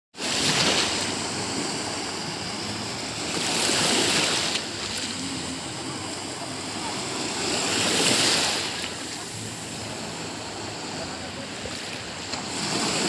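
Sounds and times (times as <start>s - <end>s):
sea waves washing onto beach: 0.2s - 13.0s.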